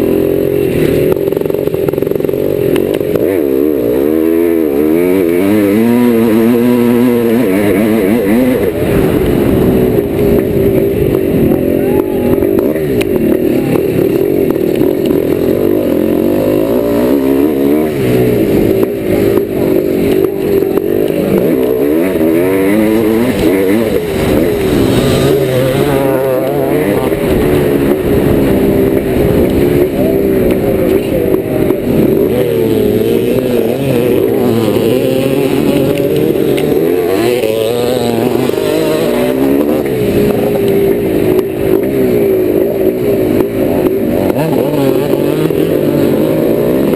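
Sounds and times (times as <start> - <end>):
two-stroke motorcycle engine: 0.0 - 46.9.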